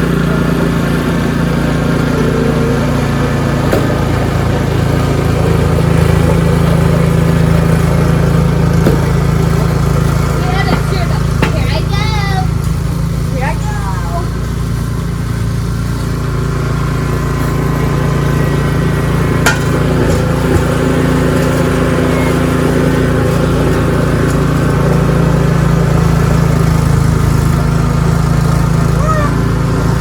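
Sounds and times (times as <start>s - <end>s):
snowblower engine running: 0.0s - 30.0s.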